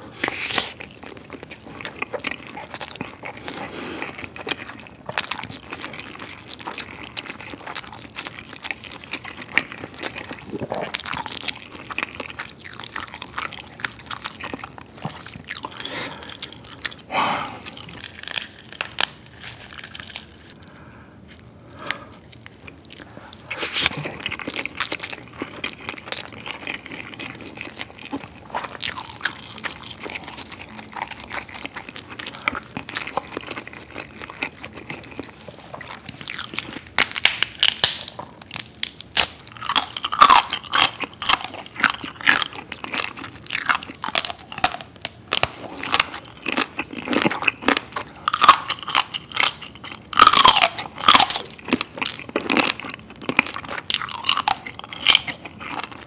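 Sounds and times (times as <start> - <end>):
chewing crab: 0.2 - 20.7, 21.9 - 56.0.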